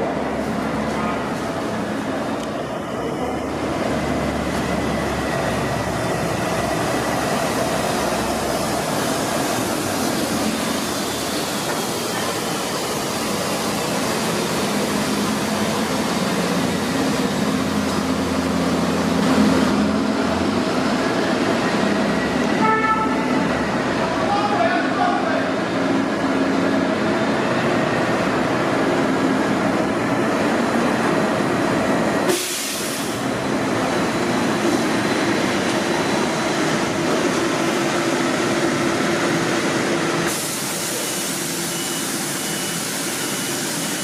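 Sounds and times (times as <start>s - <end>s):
echoing bus rumble: 0.0s - 44.0s.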